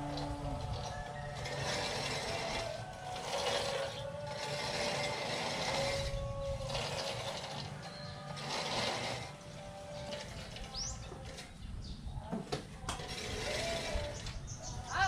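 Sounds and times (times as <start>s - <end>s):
reel mower blades whirring: 0.0s - 11.7s, 12.3s - 15.0s.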